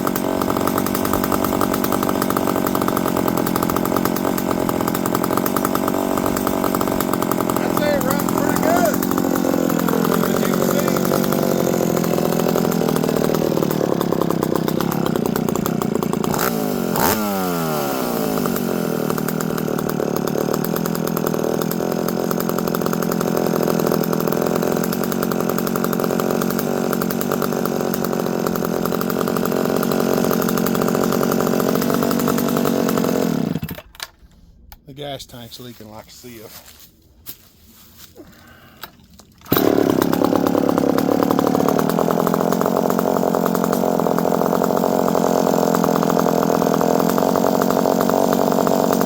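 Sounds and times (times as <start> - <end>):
chainsaw engine running: 0.0 - 34.2, 38.2 - 49.0.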